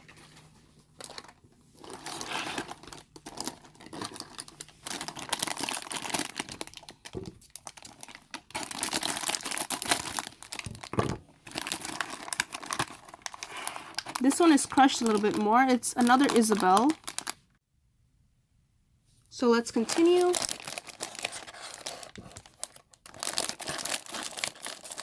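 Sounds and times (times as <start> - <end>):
foil packet crinkling and tearing: 0.0 - 17.4, 19.7 - 25.0.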